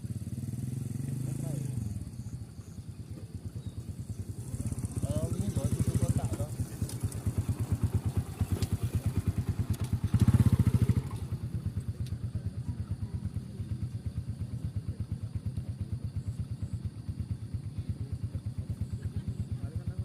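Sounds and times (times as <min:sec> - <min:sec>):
small engine pulsing: 0:00.0 - 0:20.0.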